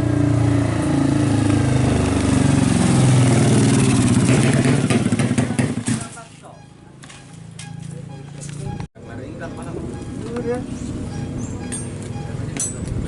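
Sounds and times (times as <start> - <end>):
motorcycle engine revving: 0.0 - 8.9, 9.5 - 13.0.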